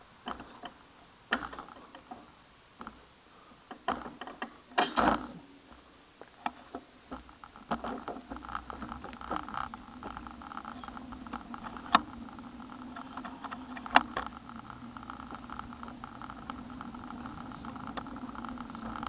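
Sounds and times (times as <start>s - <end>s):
small clicks and knocks: 0.2s - 3.0s, 3.7s - 5.4s, 6.2s - 19.0s.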